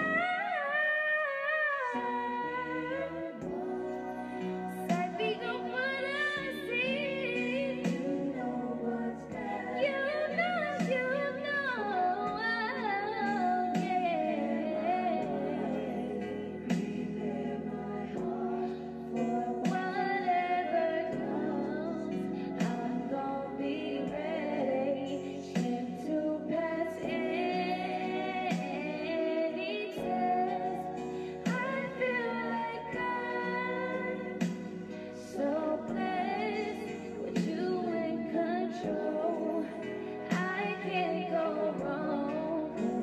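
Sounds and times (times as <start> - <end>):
woman singing gospel: 0.0 - 43.0.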